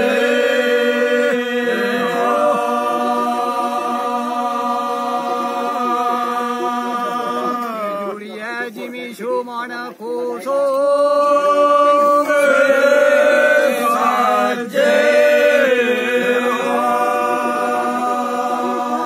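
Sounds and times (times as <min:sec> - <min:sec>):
men singing unaccompanied folk song: 0:00.0 - 0:19.0.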